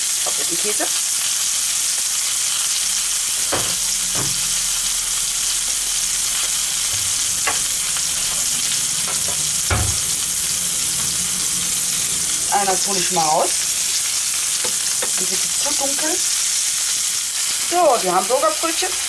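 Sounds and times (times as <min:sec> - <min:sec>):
burger sizzling in oil: 0:00.0 - 0:19.0.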